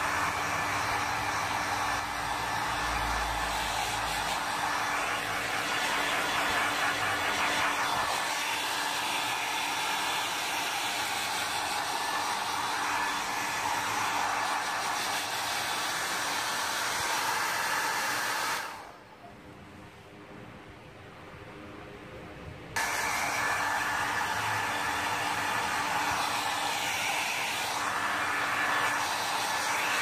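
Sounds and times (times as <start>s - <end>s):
hair dryer blowing: 0.0s - 19.1s, 22.8s - 30.0s.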